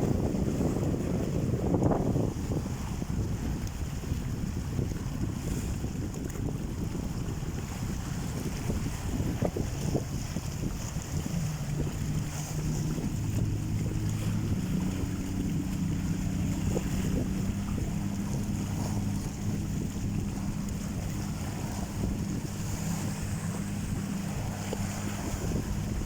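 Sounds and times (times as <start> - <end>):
sea surf: 0.0 - 26.0
wind buffeting microphone: 0.0 - 26.0.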